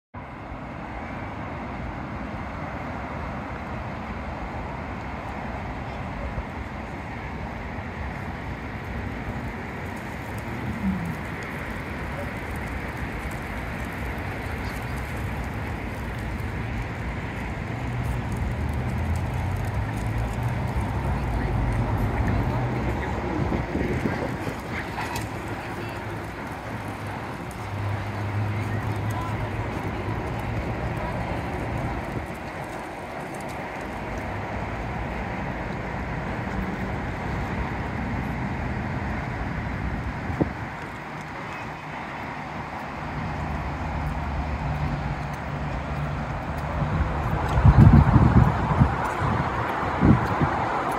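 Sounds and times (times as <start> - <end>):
street traffic noise: 0.2 - 50.9
wind buffeting microphone: 4.4 - 50.9.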